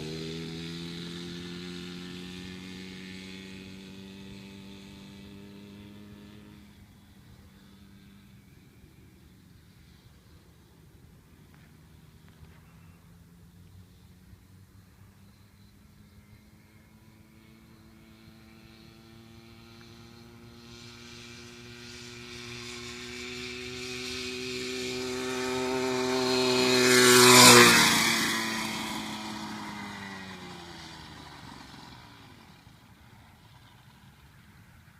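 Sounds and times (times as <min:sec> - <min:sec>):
motorized bicycle passing by: 0:00.0 - 0:34.9.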